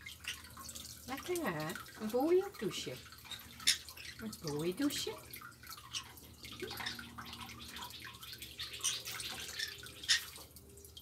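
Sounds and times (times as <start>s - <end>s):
tap water splashing in sink: 0.0s - 11.0s.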